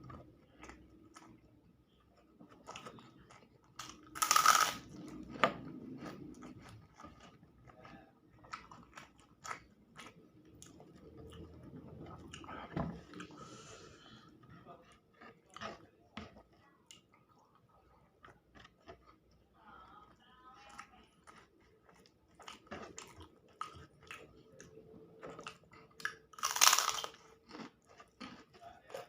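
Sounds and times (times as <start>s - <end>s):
person chewing food: 0.0s - 29.0s.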